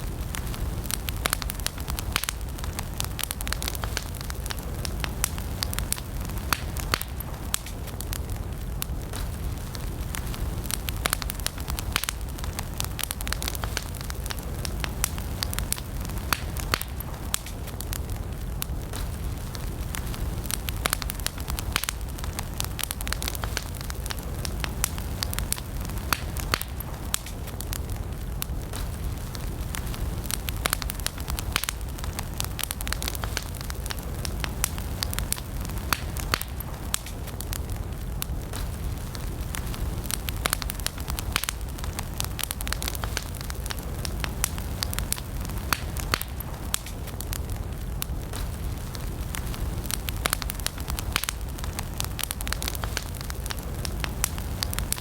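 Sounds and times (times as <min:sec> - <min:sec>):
burning logs crackling and popping: 0:00.0 - 0:55.0
campfire flames rumbling: 0:00.0 - 0:55.0.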